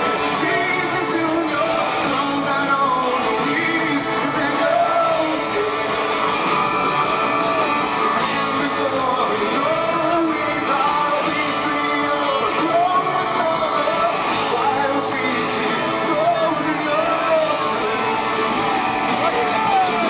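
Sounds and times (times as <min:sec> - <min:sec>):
man singing: 0:00.0 - 0:06.3, 0:08.2 - 0:18.5
electric guitars: 0:00.0 - 0:20.0
live rock band: 0:00.0 - 0:20.0.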